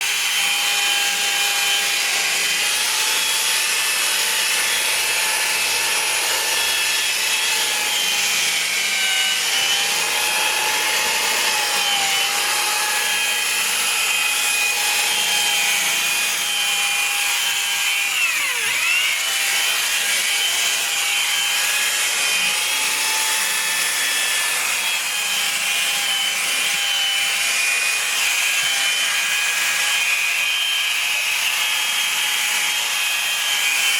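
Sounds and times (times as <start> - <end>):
small electric motor whining: 0.1 - 33.9.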